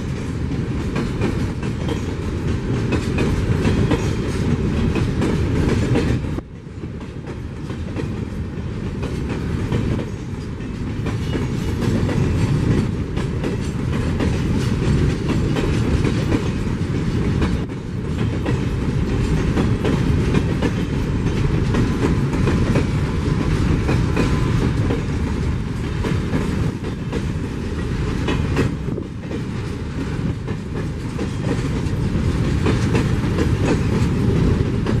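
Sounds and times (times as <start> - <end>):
freight train rumbling past: 0.0 - 35.0
wheels clicking over rail joints: 0.0 - 35.0.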